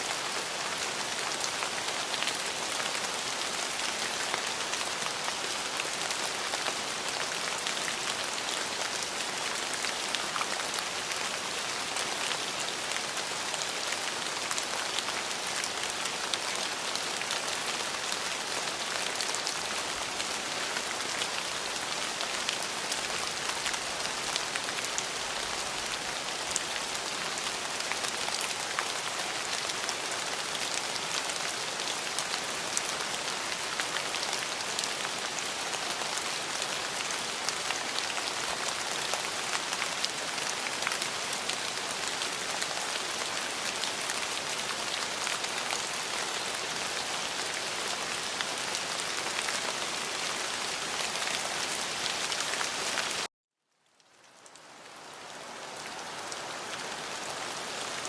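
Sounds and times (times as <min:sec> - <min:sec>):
rain falling: 0:00.0 - 0:53.3, 0:54.0 - 0:58.0.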